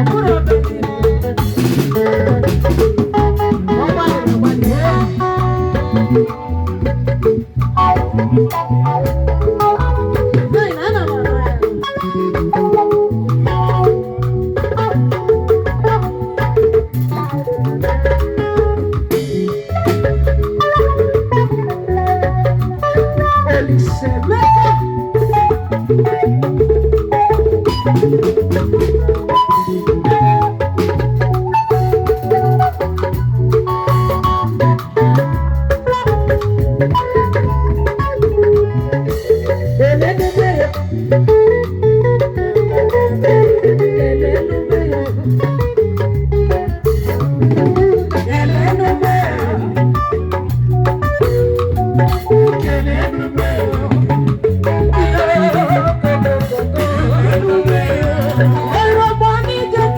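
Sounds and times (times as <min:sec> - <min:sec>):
upbeat band music: 0:00.0 - 0:59.9.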